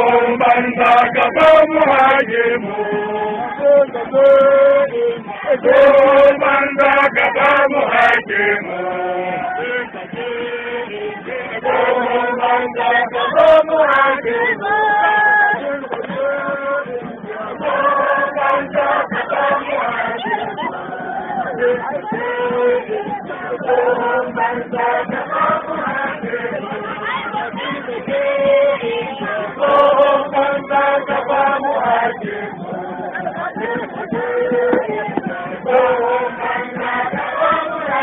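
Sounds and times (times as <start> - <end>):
men chanting together: 0.0 - 38.0.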